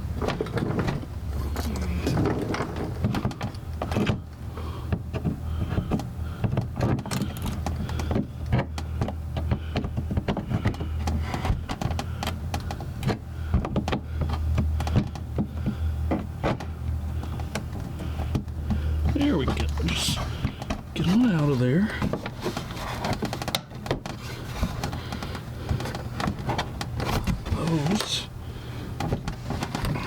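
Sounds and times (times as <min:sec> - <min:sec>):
clicks knocks and scrapes of prying: 0:00.0 - 0:28.3, 0:28.9 - 0:30.0
steady low hum: 0:00.0 - 0:30.0.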